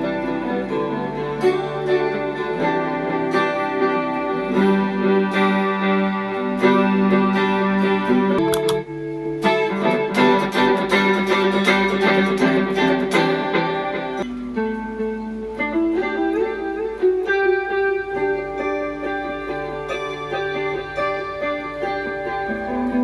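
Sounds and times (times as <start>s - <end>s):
electric guitar notes: 0.0s - 23.0s.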